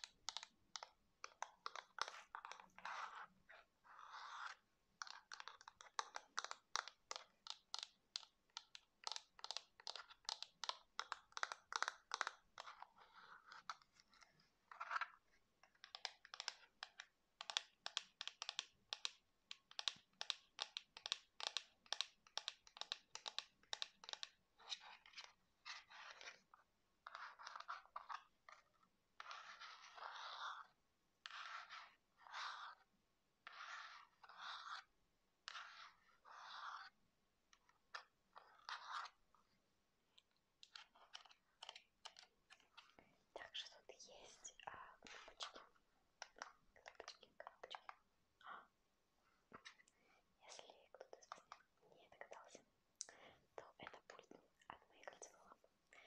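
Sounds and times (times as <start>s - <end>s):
scratching and rubbing: 0.0s - 39.6s, 40.6s - 48.0s.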